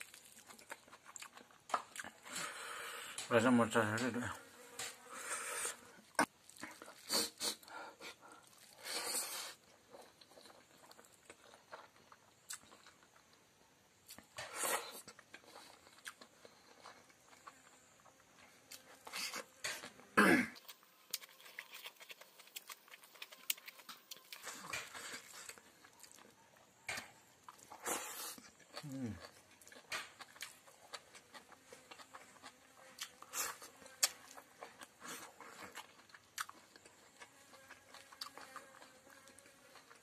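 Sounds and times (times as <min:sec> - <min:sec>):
person chewing: 0:00.0 - 0:13.4, 0:14.0 - 0:40.0.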